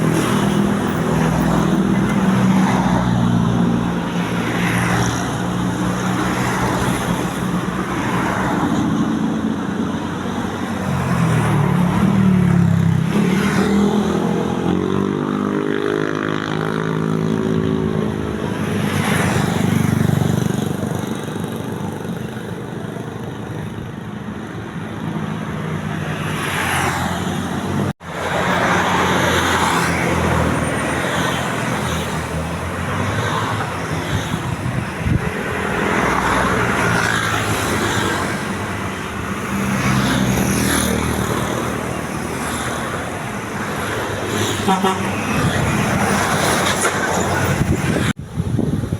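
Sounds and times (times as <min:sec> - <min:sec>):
buses passing: 0:00.0 - 0:48.9.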